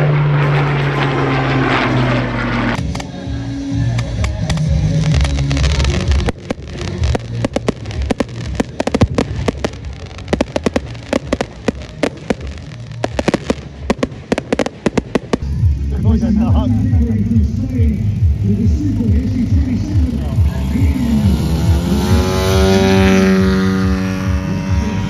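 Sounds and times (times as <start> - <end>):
low rumble: 0.0 - 25.0
firework bangs and crackling: 2.5 - 25.0.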